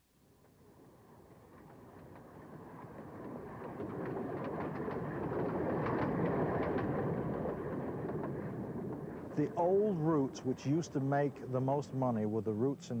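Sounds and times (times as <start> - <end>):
wheels clicking over track: 0.4 - 13.0
streetcar rumble: 0.5 - 13.0.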